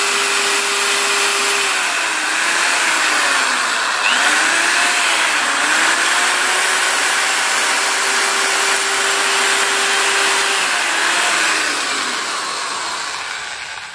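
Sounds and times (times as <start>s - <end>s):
power drill wire brush scrubbing: 0.0s - 13.9s.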